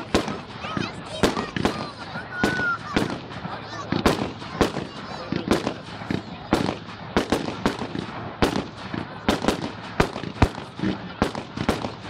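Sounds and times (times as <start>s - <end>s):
fireworks bursting with sharp bangs: 0.0s - 12.0s.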